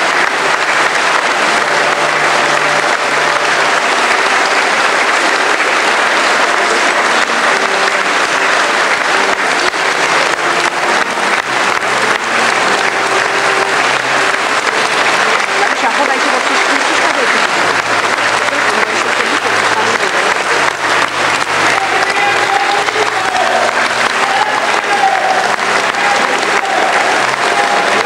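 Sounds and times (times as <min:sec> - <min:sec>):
congregation applauding: 0:00.0 - 0:28.0.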